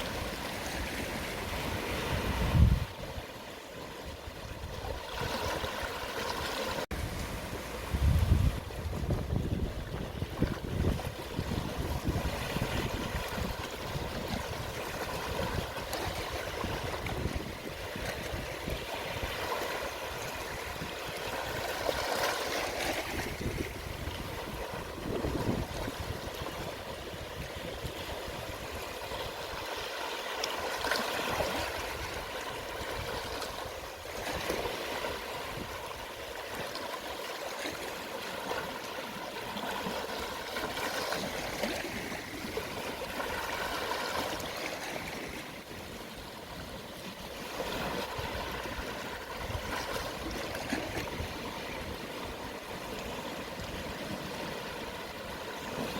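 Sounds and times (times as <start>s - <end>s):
gentle waves lapping on shore: 0.0s - 55.9s.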